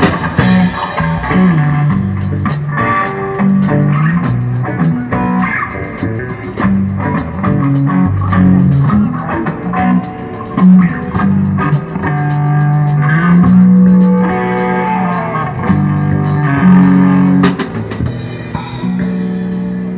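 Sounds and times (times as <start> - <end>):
bass guitar: 0.0 - 19.9
drum kit: 0.0 - 19.9
electric guitar: 0.0 - 19.9.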